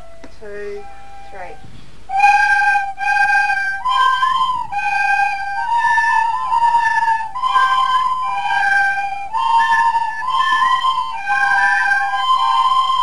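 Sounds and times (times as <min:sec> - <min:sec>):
flute-like melody: 0:00.0 - 0:13.0.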